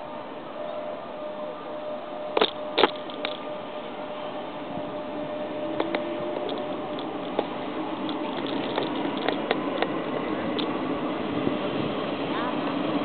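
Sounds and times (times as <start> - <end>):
train rumbling hiss: 0.0 - 13.0
train traction motor whine: 0.0 - 13.0.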